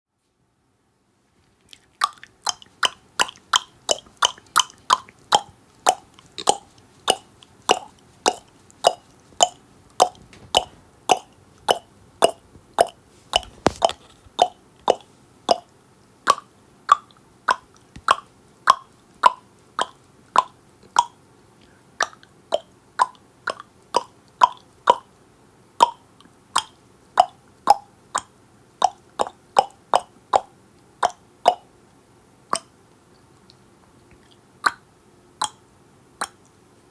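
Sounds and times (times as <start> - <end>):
tongue clicks: 1.7 - 25.1, 25.8 - 31.7, 32.5 - 36.6.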